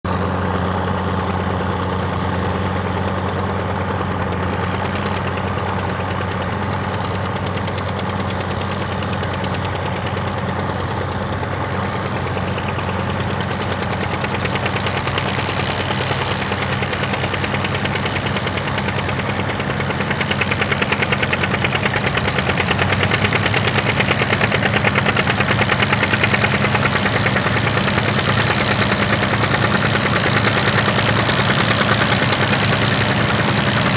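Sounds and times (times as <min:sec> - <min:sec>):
tractor engine running under load: 0:00.0 - 0:33.9.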